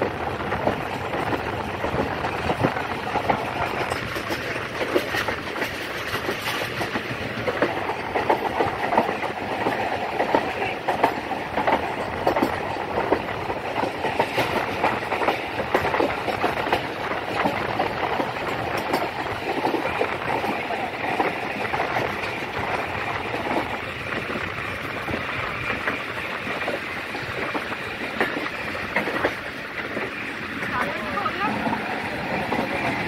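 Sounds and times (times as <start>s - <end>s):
train rumbling: 0.0s - 33.0s
wheels clicking on track: 0.0s - 33.0s.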